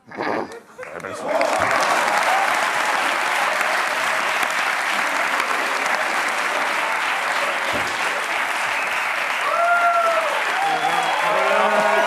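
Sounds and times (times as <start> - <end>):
dense applause: 0.9 - 12.0.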